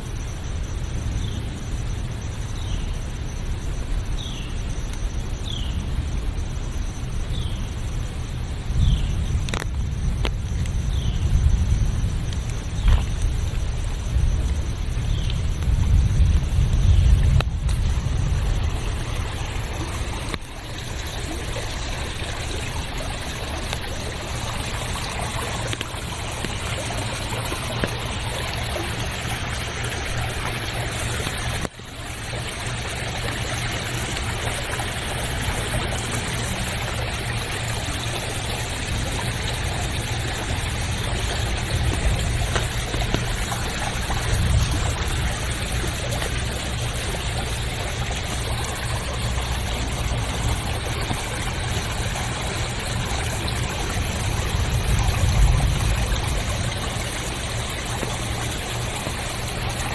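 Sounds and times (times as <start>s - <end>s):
rushing stream water: 10.9s - 59.9s.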